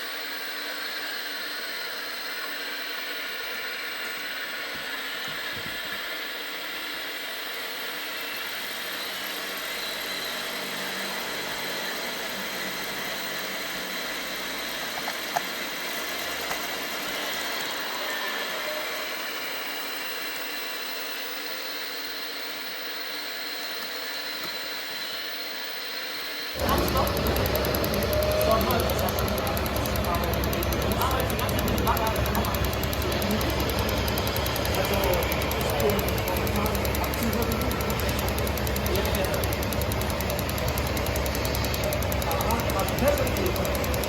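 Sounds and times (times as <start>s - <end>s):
faint high whines: 0.0s - 44.0s
model trucks mechanical hum: 0.0s - 44.0s.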